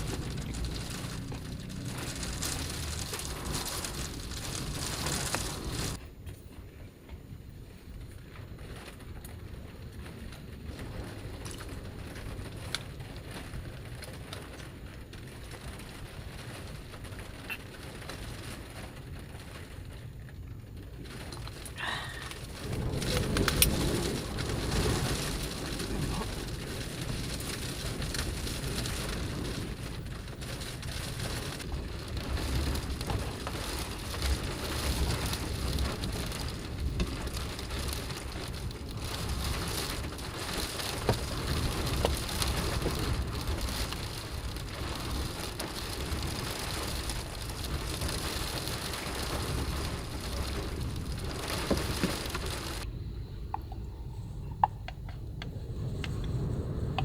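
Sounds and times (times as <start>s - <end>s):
rain beating on a van roof: 0.0s - 57.0s.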